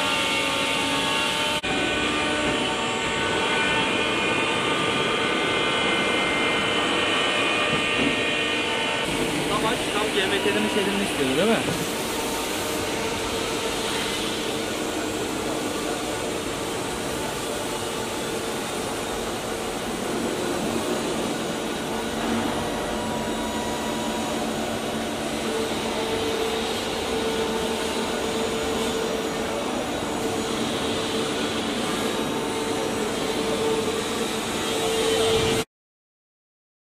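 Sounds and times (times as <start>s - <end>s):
cnc router running: 0.0s - 35.7s.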